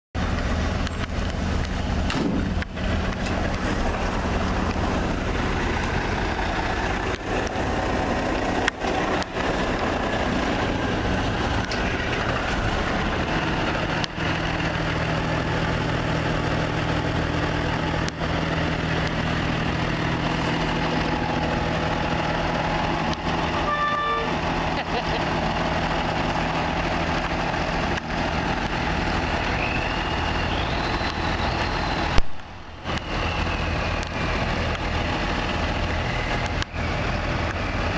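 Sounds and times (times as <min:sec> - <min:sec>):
truck engines idling: 0:00.2 - 0:37.9.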